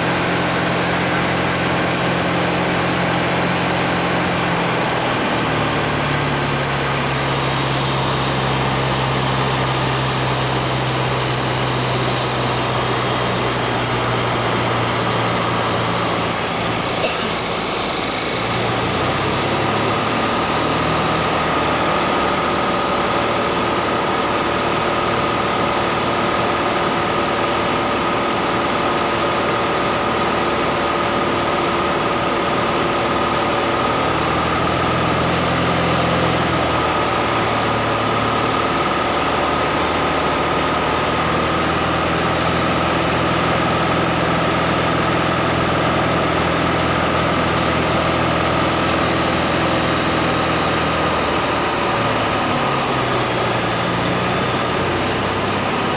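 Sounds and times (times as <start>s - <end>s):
aircraft engine droning: 0.0s - 55.9s.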